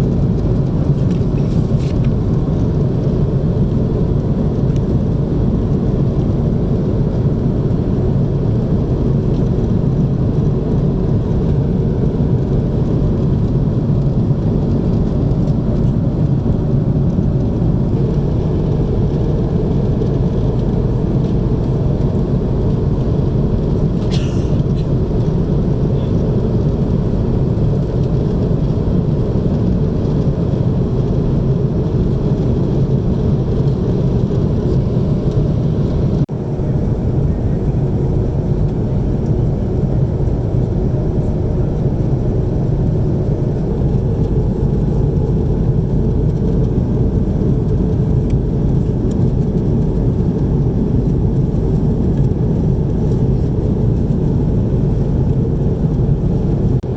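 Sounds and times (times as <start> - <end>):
aircraft cabin engine and airflow rumble: 0.0 - 56.9.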